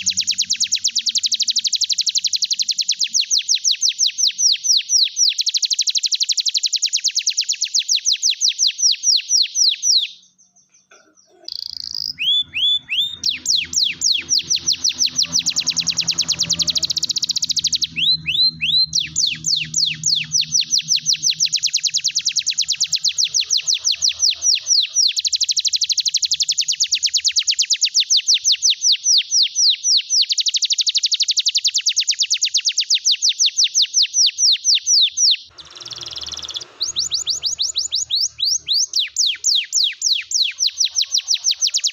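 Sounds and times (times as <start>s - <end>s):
canary singing rolling trills: 0.0s - 41.9s.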